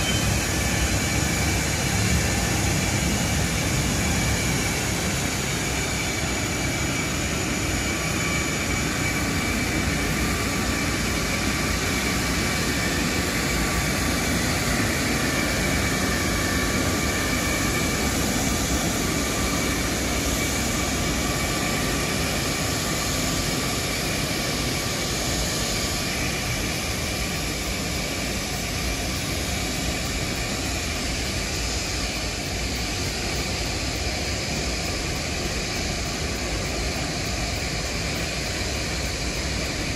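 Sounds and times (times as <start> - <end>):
faint high whine: 0.0 - 39.9
jet engines rushing: 0.0 - 39.9.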